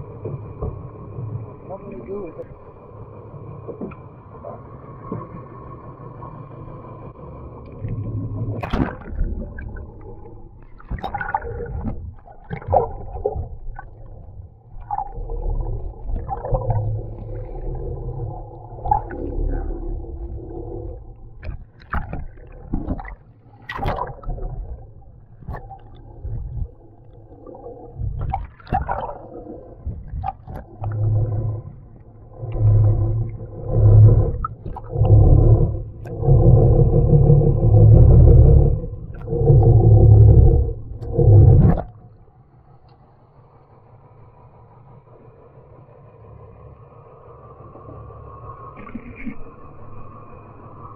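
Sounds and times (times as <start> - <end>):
muffled underwater rumbling: 0.0 - 42.9, 44.9 - 50.9.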